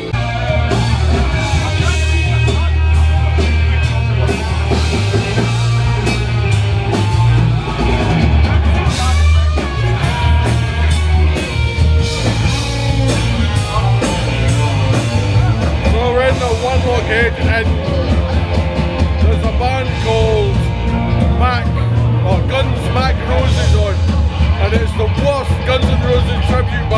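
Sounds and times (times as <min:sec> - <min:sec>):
loud rock music: 0:00.0 - 0:26.9.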